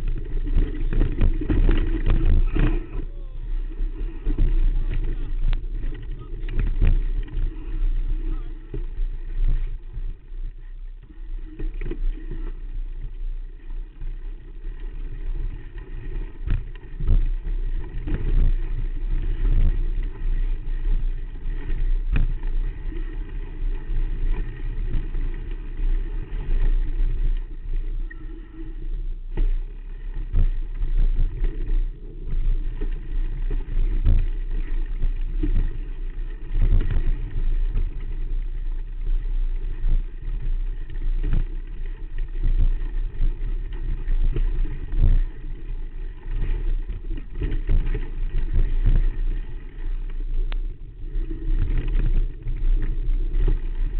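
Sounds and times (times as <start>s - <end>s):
bike rumbling over rocky trail: 0.0s - 53.9s
wind buffeting microphone: 0.0s - 53.9s.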